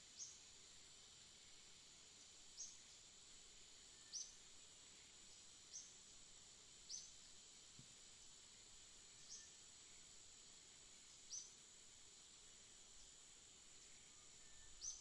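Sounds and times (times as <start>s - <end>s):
faint high-pitched hiss: 0.0s - 15.0s.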